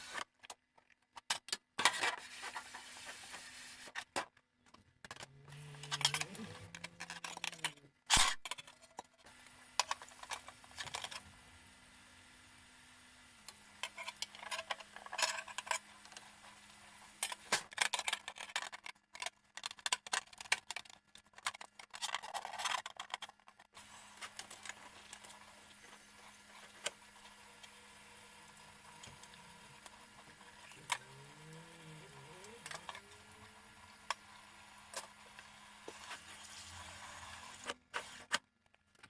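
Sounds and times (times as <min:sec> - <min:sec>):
plastic and metal parts clattering: 0:00.1 - 0:11.3, 0:13.8 - 0:16.4, 0:17.1 - 0:36.7, 0:37.5 - 0:39.0.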